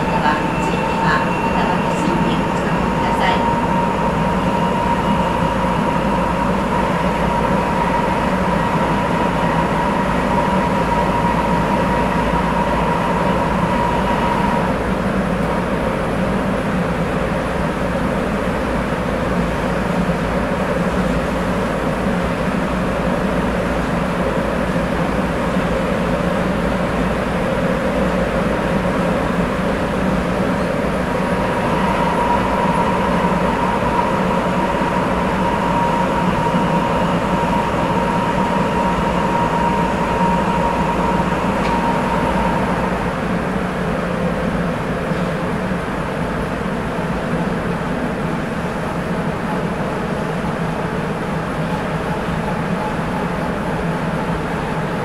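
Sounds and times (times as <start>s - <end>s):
high steady whine: 0.0s - 17.1s, 17.7s - 55.0s
train running rumble: 0.0s - 55.0s.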